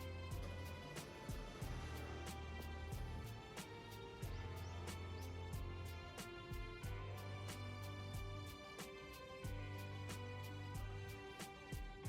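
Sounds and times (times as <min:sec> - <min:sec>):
low bass: 0:00.0 - 0:08.7, 0:09.5 - 0:11.3.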